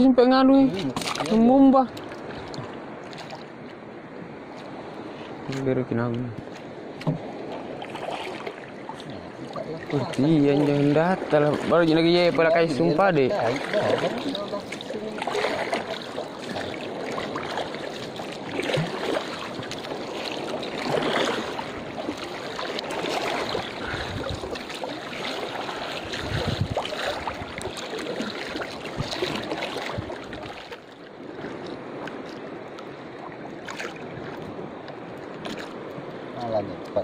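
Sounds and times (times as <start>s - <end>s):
water lapping: 0.3s - 37.0s
water splashing from paddling: 0.6s - 37.0s.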